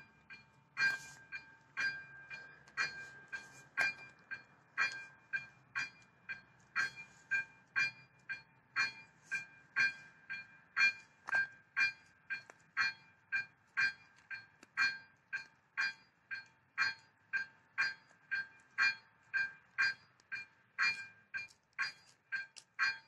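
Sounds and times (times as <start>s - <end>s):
level crossing warning bell: 0.0s - 23.0s.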